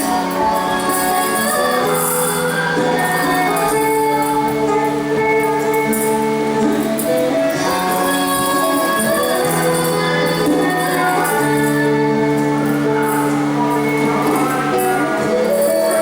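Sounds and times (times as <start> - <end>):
traditional dance music: 0.0 - 16.0.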